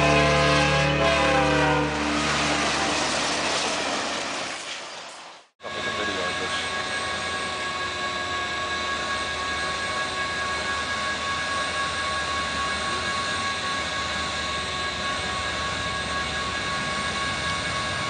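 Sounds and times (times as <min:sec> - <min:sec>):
distant train rumble: 0:00.0 - 0:18.0.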